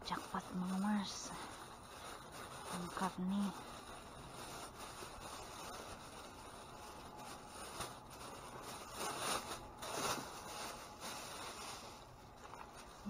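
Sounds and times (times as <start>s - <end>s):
food packaging rustling: 0.0s - 13.0s.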